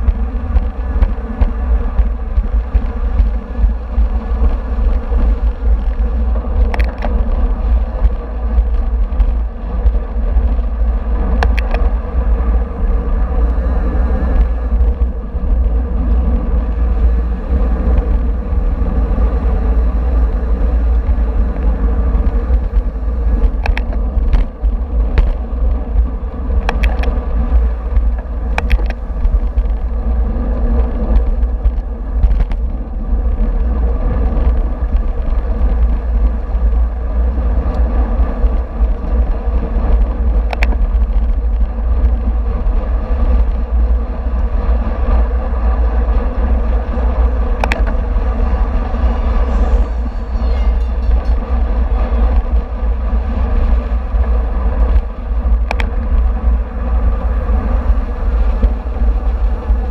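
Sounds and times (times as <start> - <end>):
road noise rush: 0.0 - 59.9
wind buffeting microphone: 0.0 - 59.9.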